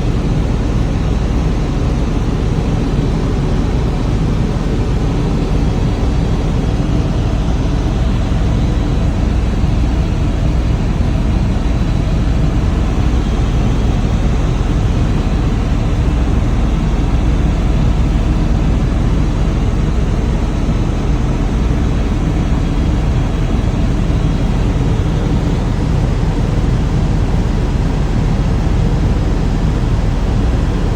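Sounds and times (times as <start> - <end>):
helicopter rotor and engine rumble: 0.0 - 30.9.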